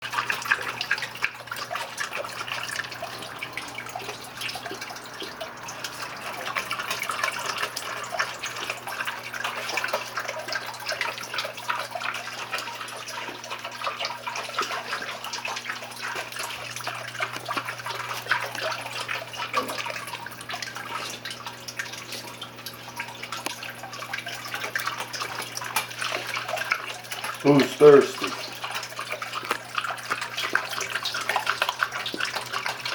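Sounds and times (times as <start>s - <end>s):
pump low hum: 0.0s - 32.9s
water splashing and trickling: 0.0s - 32.9s.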